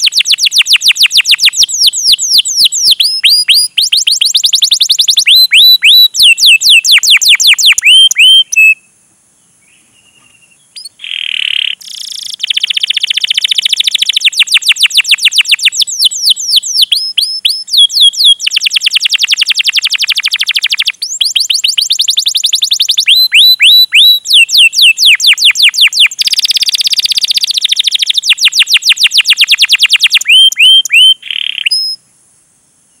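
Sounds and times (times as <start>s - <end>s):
canary singing: 0.0s - 8.9s, 9.8s - 32.0s.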